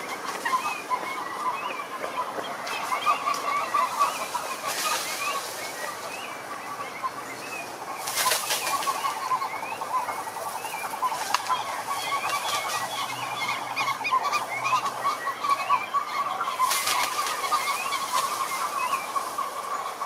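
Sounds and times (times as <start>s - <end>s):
frogs croaking and chirping: 0.0s - 20.0s.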